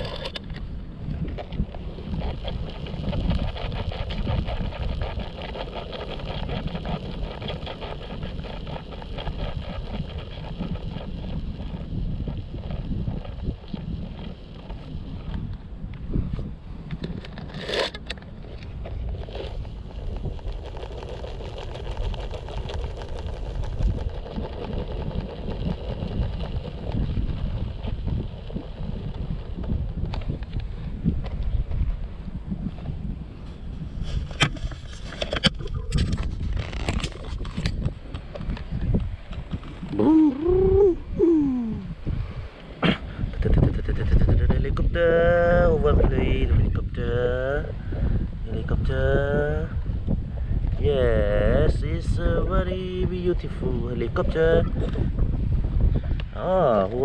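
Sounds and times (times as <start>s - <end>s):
low rumble: 0.0s - 57.0s.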